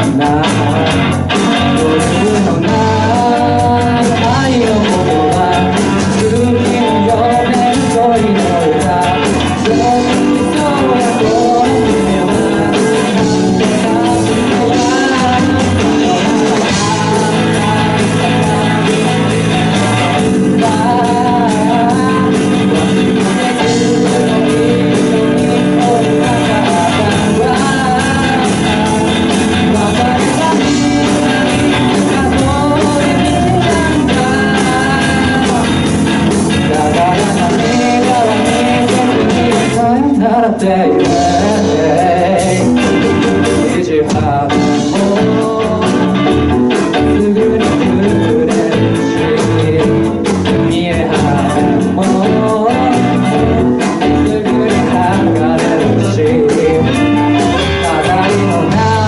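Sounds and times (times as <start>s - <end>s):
keyboard and band accompaniment: 0.0s - 59.0s
person singing: 0.0s - 59.0s.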